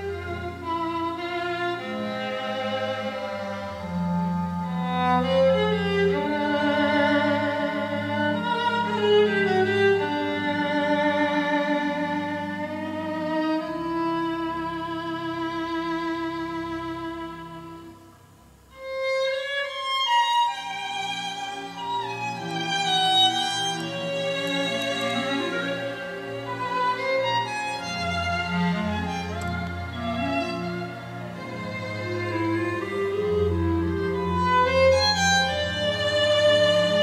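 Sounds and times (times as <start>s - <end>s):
low sustained accompaniment: 0.0s - 37.0s
solo violin with vibrato: 0.0s - 37.0s.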